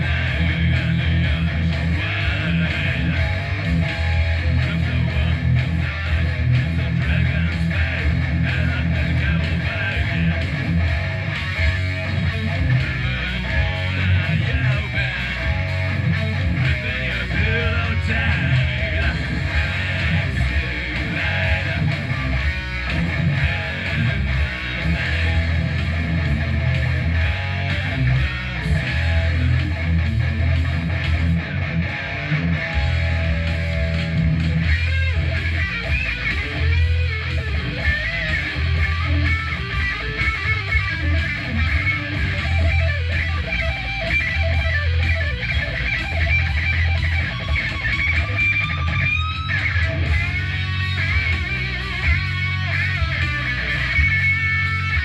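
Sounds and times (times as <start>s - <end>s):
electric guitar chords and riffs: 0.0s - 55.0s
wavering guitar lead notes: 0.0s - 55.0s.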